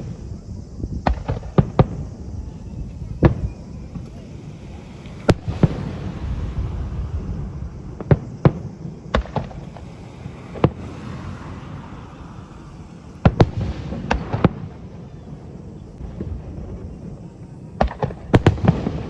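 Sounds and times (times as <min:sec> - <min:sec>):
steady low rumble: 0:00.0 - 0:18.4
fireworks bursting: 0:00.0 - 0:19.0.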